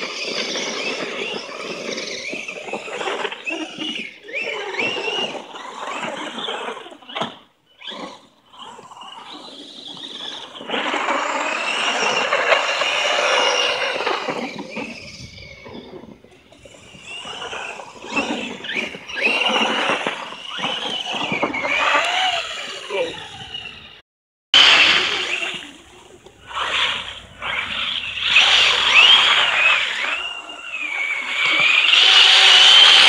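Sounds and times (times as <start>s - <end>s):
electric motors whining: 0.0s - 24.0s, 24.6s - 33.0s.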